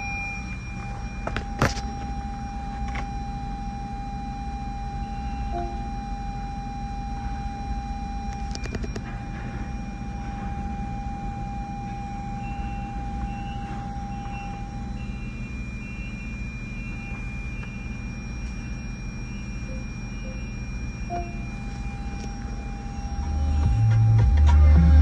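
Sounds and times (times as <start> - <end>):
faint electronic beep: 0.0 - 25.0.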